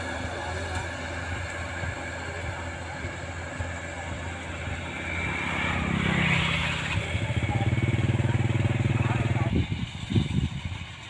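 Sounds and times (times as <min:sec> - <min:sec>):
distant combine harvester: 0:00.0 - 0:11.0
tracked carrier engine chugging: 0:00.0 - 0:11.0.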